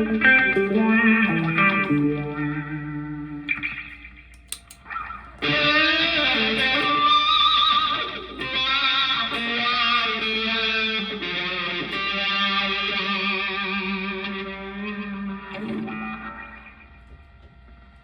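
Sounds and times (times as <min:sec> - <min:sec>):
distorted electric guitar notes: 0:00.0 - 0:17.8.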